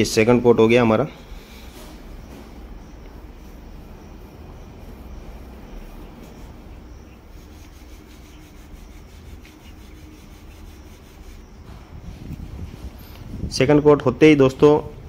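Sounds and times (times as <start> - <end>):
paint roller rubbing on wall: 1.3 - 13.6.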